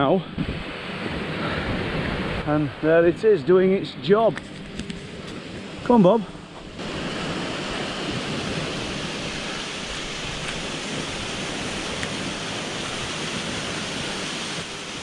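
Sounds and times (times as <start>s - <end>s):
rush of falling water: 0.0s - 4.2s, 5.3s - 15.0s
sea surf: 0.0s - 15.0s.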